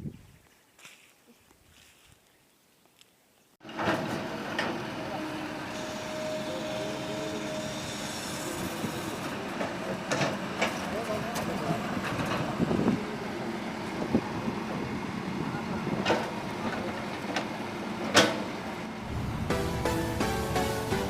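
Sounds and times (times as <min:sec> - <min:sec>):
excavator running: 0:03.6 - 0:21.0.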